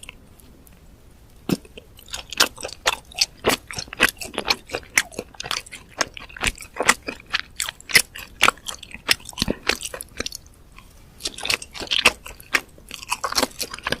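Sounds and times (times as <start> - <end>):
chewing and crunching food: 0.0 - 0.8, 1.4 - 14.0.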